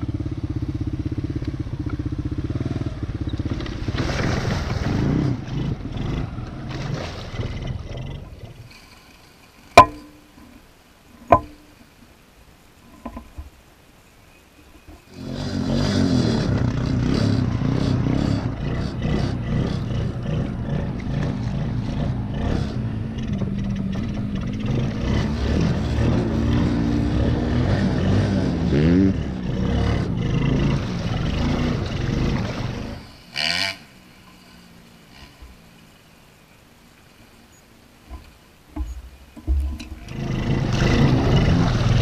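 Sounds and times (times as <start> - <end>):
atv engine revving: 0.0 - 8.6, 15.1 - 36.2, 38.1 - 42.0.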